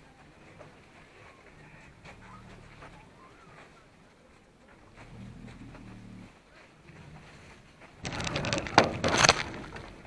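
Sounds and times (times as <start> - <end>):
elephant footsteps and rustling: 0.0 - 10.0.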